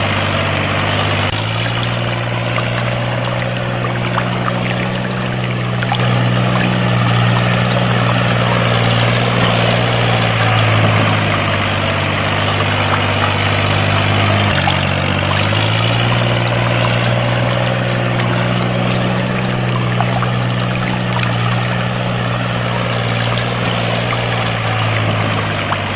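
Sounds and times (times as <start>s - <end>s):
small electric pump motor humming: 0.0s - 25.9s
water pouring and splashing: 0.0s - 25.9s.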